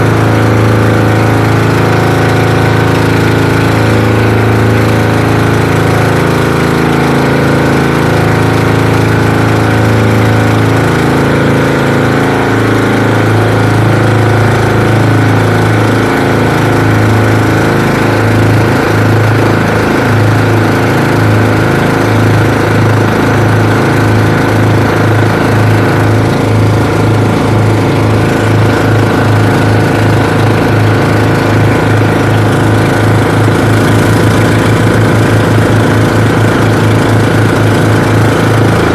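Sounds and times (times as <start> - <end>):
boat engines throbbing: 0.0 - 38.9.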